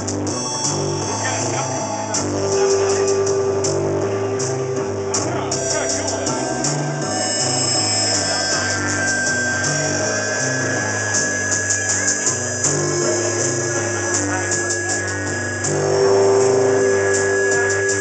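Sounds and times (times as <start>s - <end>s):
electric bass line: 0.0s - 18.0s
electronic backing music: 0.0s - 18.0s.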